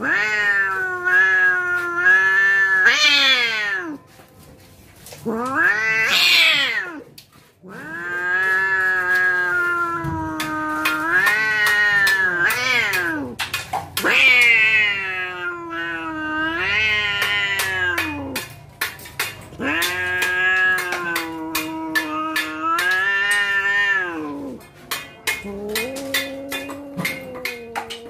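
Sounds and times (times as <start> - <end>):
cat yowling: 0.0 - 4.0, 5.2 - 13.4, 14.0 - 18.5, 19.5 - 24.6, 25.3 - 28.0.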